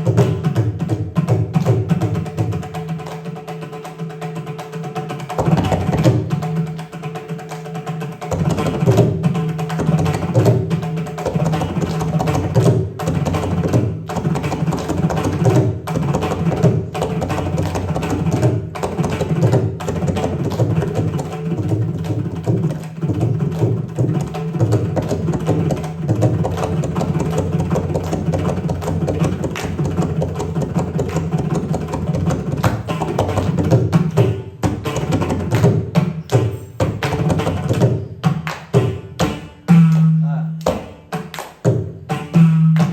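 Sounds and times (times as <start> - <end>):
hand drums playing fast rhythm: 0.0 - 42.9.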